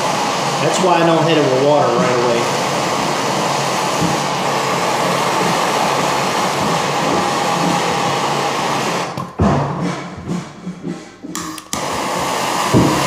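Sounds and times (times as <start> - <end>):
gas torch hissing: 0.0 - 9.4, 11.3 - 13.0.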